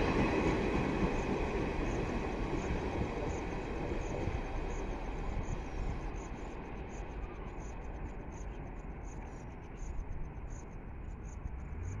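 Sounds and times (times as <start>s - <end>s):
train rumbling past on track: 0.0s - 12.0s.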